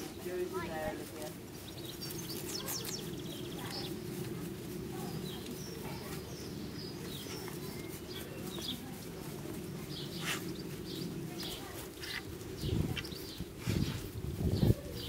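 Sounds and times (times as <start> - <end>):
low outdoor background hum: 0.0 - 15.0
small birds chirping: 0.0 - 15.0.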